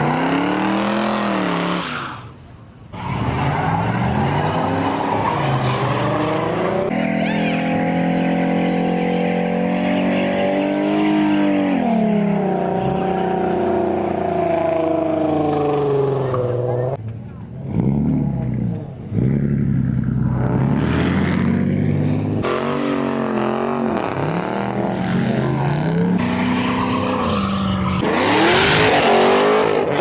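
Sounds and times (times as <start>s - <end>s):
car engine revving: 2.9s - 17.0s, 17.6s - 30.0s.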